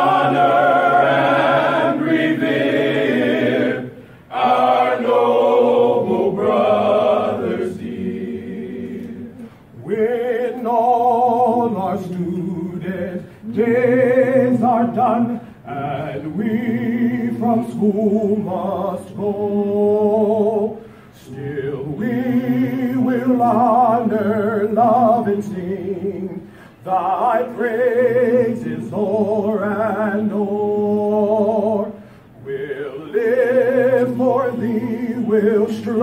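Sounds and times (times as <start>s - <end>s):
male choir singing: 0.0s - 36.0s.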